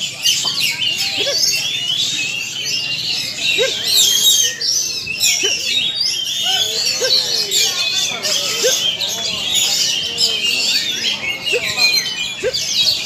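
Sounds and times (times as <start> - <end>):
crowd voices calling: 0.0 - 13.0
many songbirds whistling: 0.0 - 13.0.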